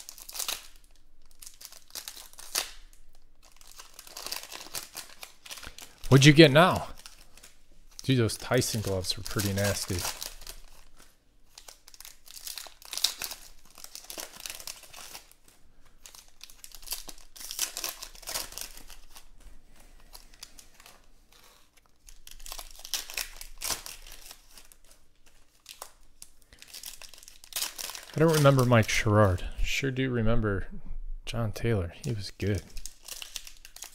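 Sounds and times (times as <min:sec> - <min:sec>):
foil wrappers crinkling and tearing: 0:00.0 - 0:29.5, 0:32.1 - 0:33.9.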